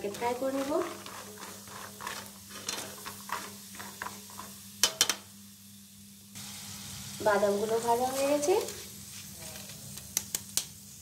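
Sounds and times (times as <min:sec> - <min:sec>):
peanuts sizzling in hot oil: 0:00.0 - 0:11.0.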